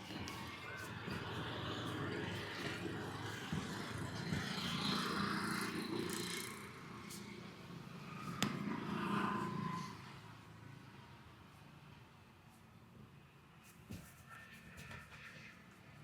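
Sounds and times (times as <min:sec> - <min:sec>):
roadside traffic noise: 0:00.0 - 0:13.6.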